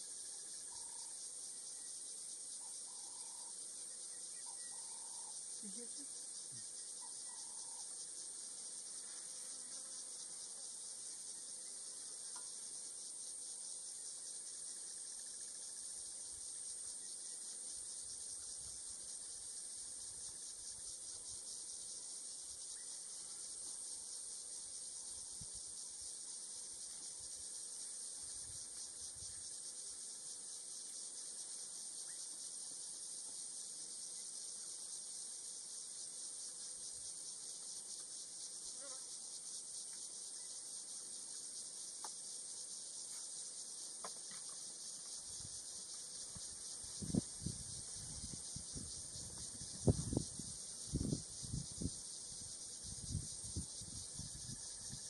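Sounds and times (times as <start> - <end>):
insect chorus drone: 0.0 - 55.0.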